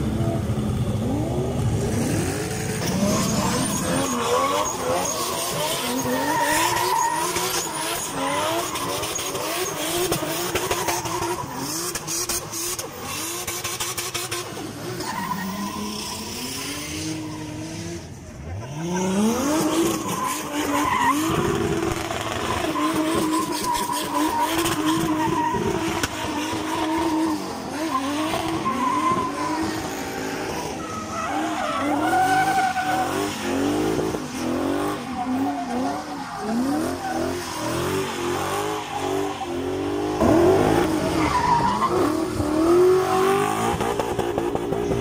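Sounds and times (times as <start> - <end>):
car engines revving hard: 0.0 - 45.0.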